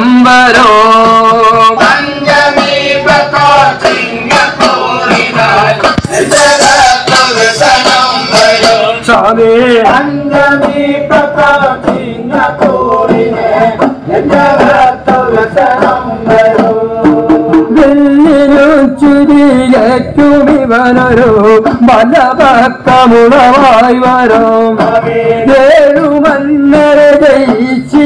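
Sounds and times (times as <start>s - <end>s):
drum strikes: 0.0s - 28.0s
person singing devotional song: 0.0s - 28.0s.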